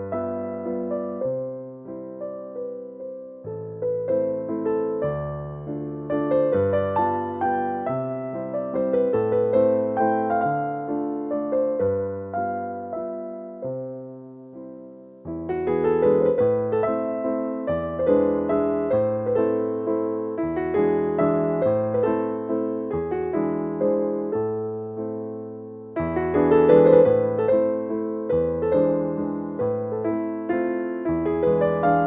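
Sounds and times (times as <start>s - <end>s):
gentle electric piano music: 0.0s - 32.0s.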